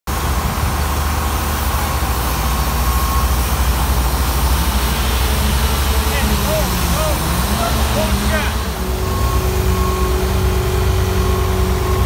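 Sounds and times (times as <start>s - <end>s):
diesel engine droning: 0.1s - 12.0s.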